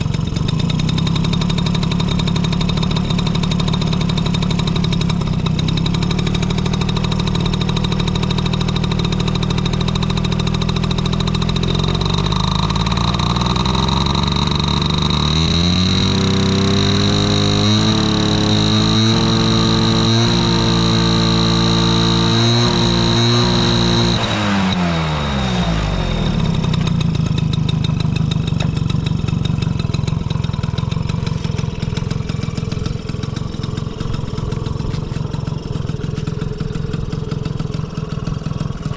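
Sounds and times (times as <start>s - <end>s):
small two-stroke engine revving: 0.0s - 38.9s.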